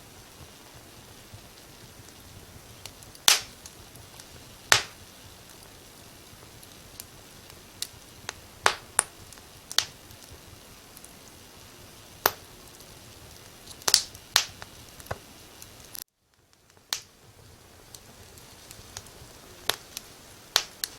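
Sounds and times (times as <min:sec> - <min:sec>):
faint steady hiss: 0:00.0 - 0:20.9
wood fire crackling and popping: 0:00.0 - 0:20.9.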